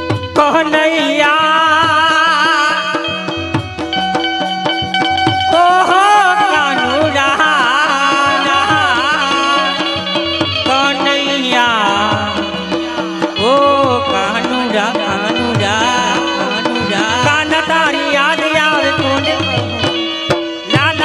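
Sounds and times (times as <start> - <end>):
hand drum rhythm: 0.0 - 21.0
wavering folk melody: 0.9 - 21.0.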